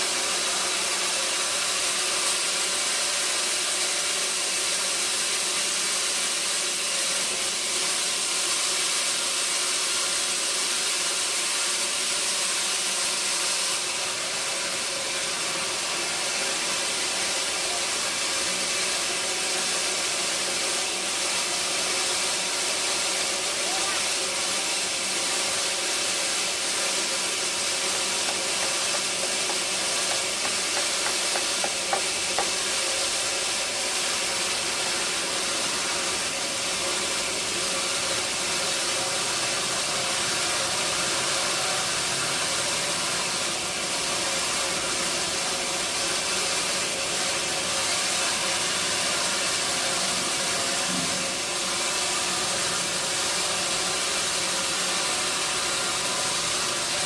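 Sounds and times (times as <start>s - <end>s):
sawmill machinery hissing and humming: 0.0s - 57.0s.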